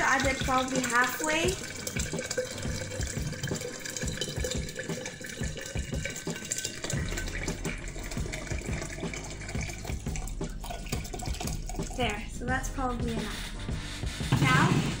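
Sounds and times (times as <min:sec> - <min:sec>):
water pouring into a glass: 0:00.0 - 0:12.2.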